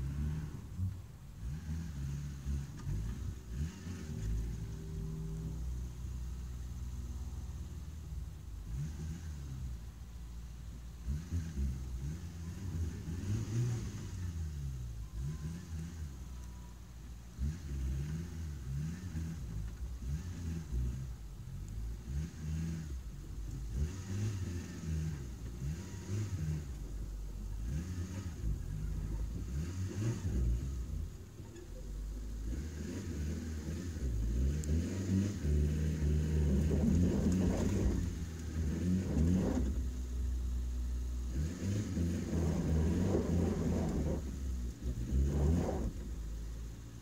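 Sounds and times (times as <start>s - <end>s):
off-road vehicle engine revving: 0.0s - 47.0s.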